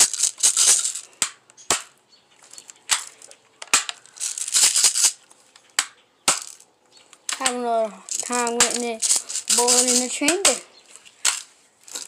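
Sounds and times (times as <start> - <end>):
rasping rattling rustles: 0.0 - 1.2, 2.3 - 5.6, 6.4 - 12.0.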